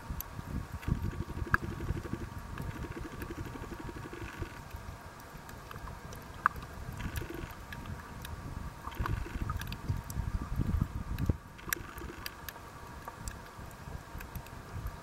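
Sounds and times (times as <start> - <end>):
faint ticks: 0.1 - 15.0
underwater rumble of moving water: 0.3 - 15.0.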